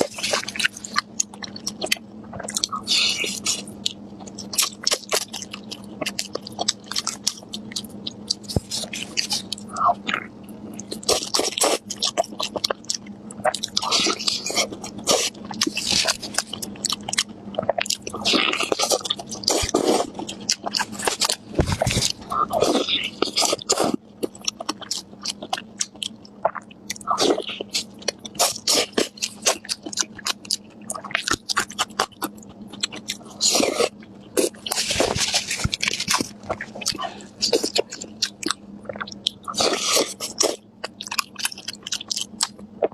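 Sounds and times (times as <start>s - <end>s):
chewing and biting food: 0.0s - 42.9s.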